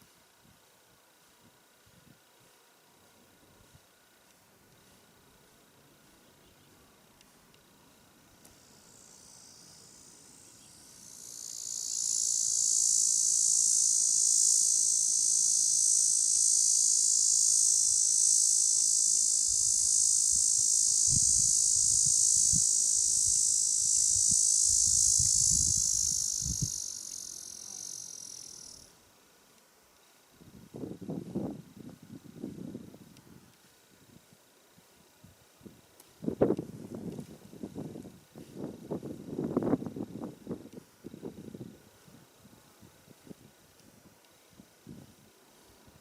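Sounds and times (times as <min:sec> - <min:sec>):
insect buzzing drone: 0:00.0 - 0:46.0.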